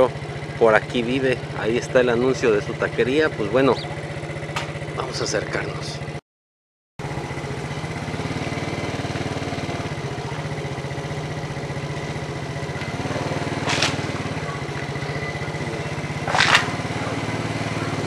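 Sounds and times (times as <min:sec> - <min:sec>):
scooter engine at low speed: 0:00.0 - 0:06.2, 0:07.0 - 0:18.0.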